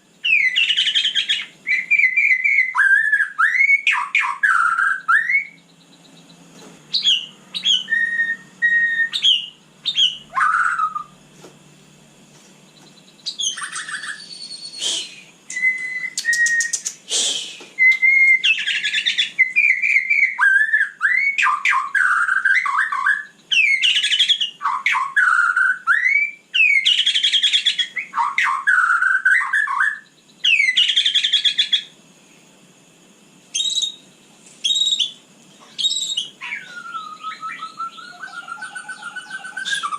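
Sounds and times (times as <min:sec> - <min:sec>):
songbird singing: 0:00.0 - 0:11.3, 0:12.5 - 0:32.5, 0:33.5 - 0:39.9.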